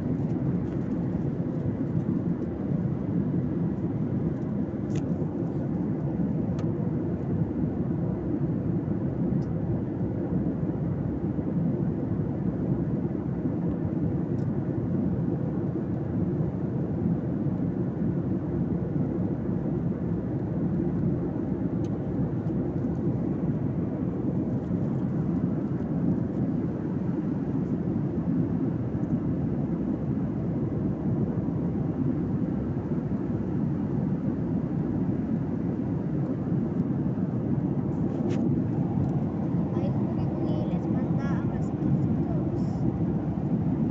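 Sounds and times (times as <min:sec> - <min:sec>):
airliner cabin rumble: 0:00.0 - 0:43.9.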